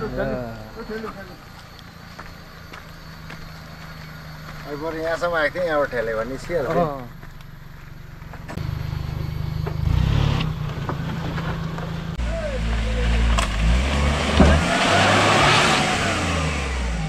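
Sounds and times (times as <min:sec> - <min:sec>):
van engine revving: 0:00.0 - 0:17.0.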